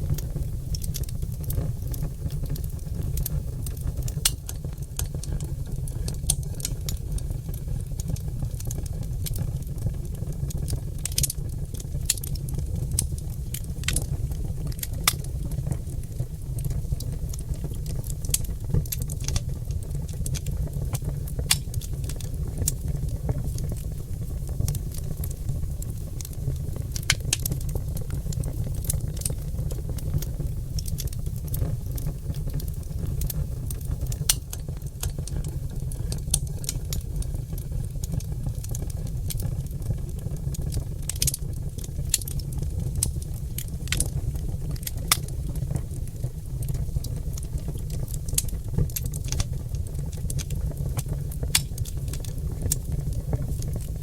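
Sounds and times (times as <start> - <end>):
fire low rumble: 0.0 - 54.0
logs crackling and popping: 0.0 - 54.0.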